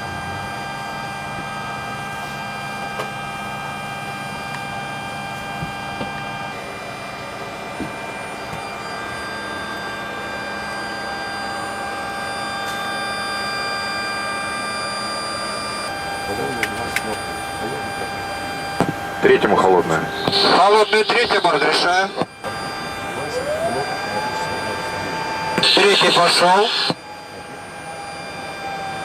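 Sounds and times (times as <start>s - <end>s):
auxiliary power unit whine: 0.0s - 29.0s.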